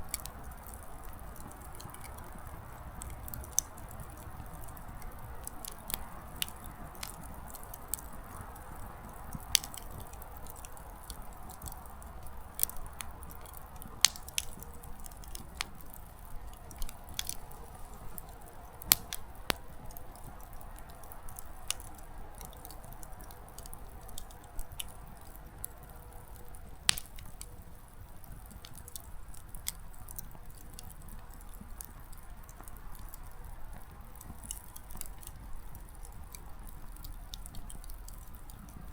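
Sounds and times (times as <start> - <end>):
fire soft hiss: 0.0 - 38.9
firewood crackling and popping: 0.0 - 38.9.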